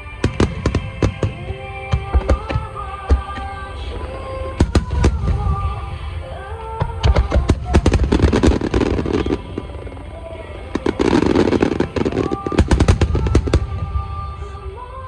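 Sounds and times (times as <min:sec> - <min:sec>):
fireworks bangs and crackles: 0:00.0 - 0:14.7
music: 0:00.0 - 0:15.0.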